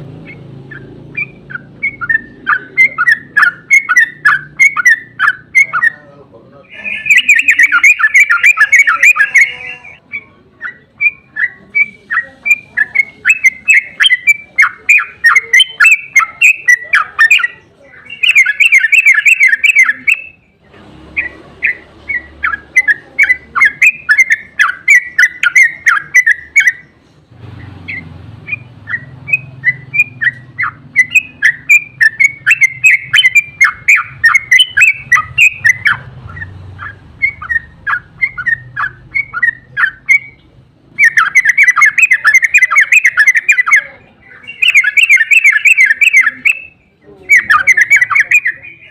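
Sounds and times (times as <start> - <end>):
bird singing chattering song: 0.0 - 48.9.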